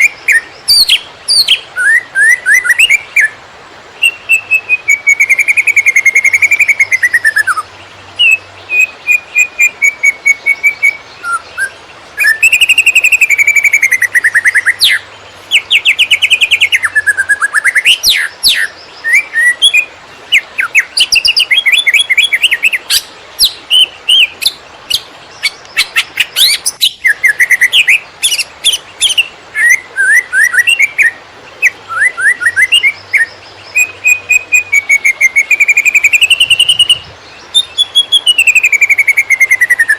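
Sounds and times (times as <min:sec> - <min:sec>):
bird singing whistled phrases: 0:00.0 - 0:03.4, 0:04.0 - 0:39.9.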